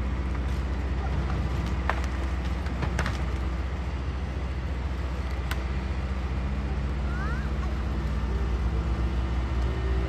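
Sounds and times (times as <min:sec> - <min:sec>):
heavy machinery engines running: 0:00.0 - 0:10.0.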